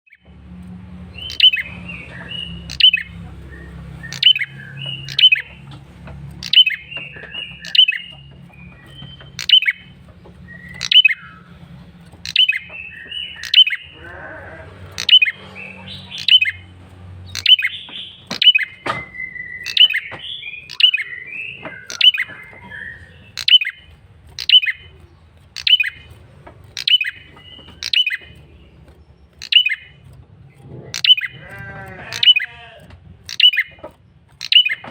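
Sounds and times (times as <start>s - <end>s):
soft bird twittering: 1.0s - 34.9s.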